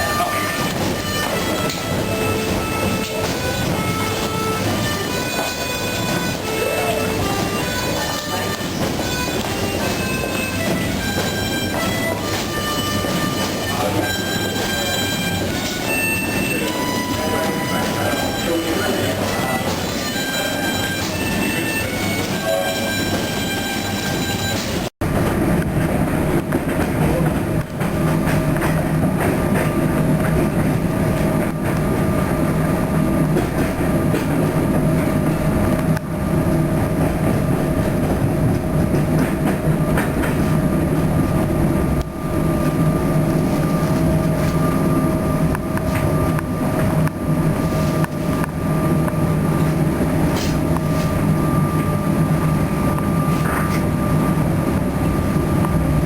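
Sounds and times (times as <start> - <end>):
electric train rumbling: 0.0 - 56.0
train hum: 0.0 - 56.0.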